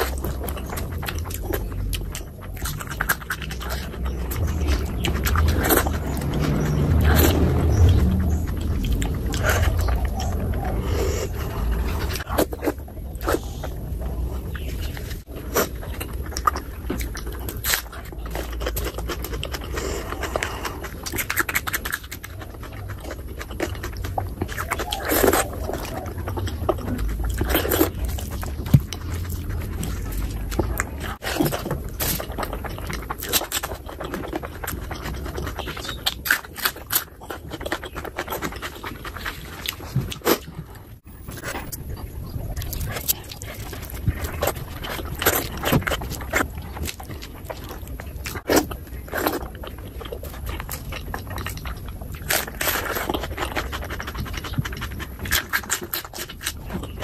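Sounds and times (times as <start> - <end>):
wet chewing and lip smacks: 0.0 - 57.0.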